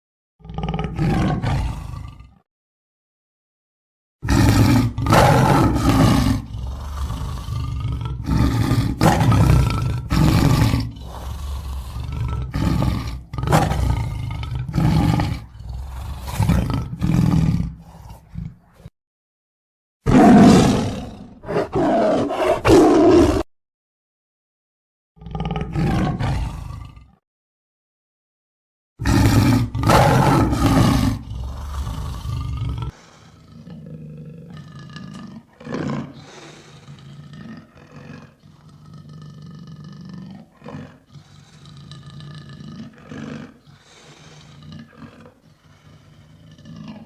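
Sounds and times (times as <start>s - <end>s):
lion roaring and grunting: 0.4s - 2.4s, 4.2s - 18.9s, 20.1s - 23.5s, 25.2s - 27.2s, 29.0s - 47.0s.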